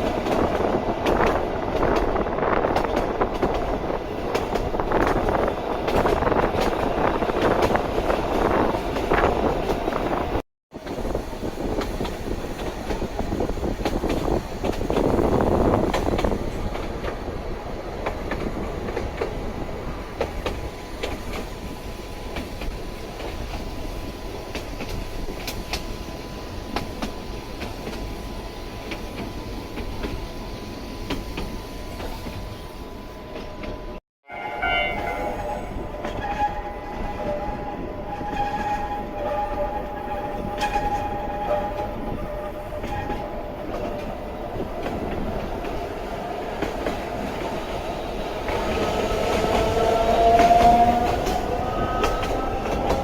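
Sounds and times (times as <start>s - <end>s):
electric train rumbling on track: 0.0s - 53.0s.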